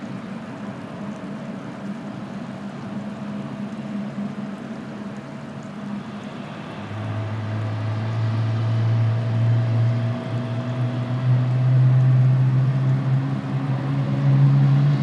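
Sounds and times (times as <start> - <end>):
jet engines running: 0.0 - 15.0
strong low drone: 2.7 - 15.0.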